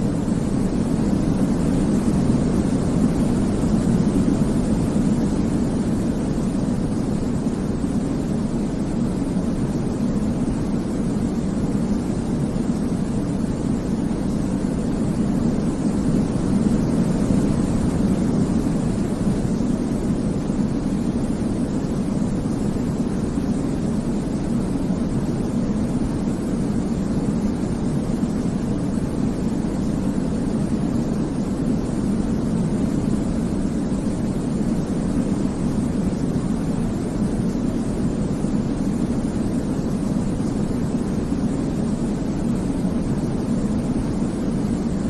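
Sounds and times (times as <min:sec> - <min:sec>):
deep white noise hiss: 0:00.0 - 0:45.0.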